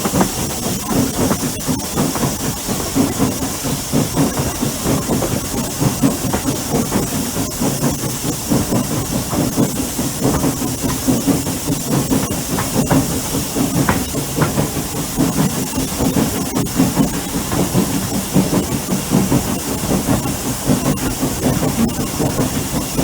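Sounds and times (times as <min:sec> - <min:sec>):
steam hissing: 0:00.0 - 0:23.0
train low rumble: 0:00.0 - 0:23.0.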